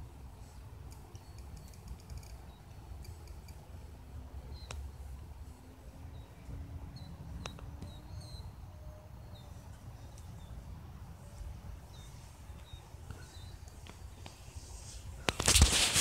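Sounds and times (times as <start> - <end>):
faint steady hum: 0.0 - 16.0
small birds chirping: 0.3 - 3.6, 4.4 - 14.9.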